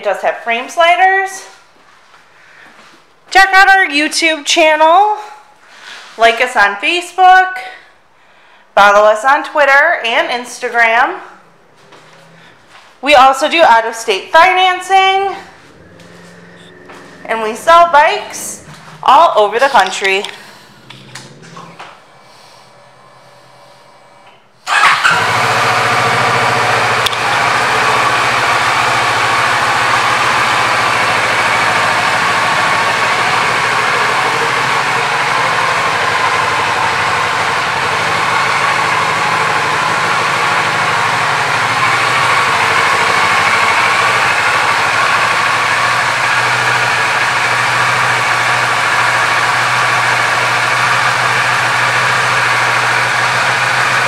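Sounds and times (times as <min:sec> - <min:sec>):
motorcycle engine starting and idling: 0:10.4 - 0:54.0.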